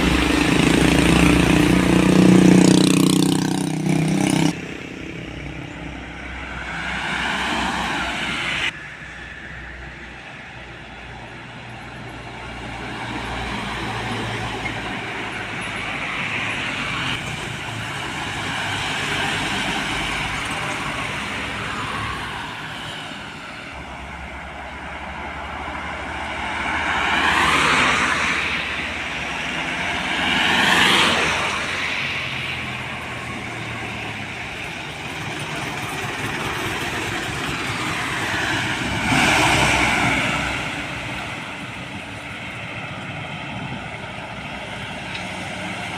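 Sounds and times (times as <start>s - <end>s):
trucks and buses driving past: 0.0s - 45.9s.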